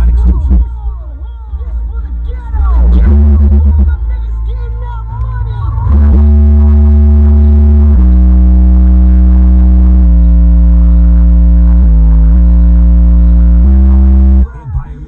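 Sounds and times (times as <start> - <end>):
subwoofer playing deep bass: 0.0 - 15.0.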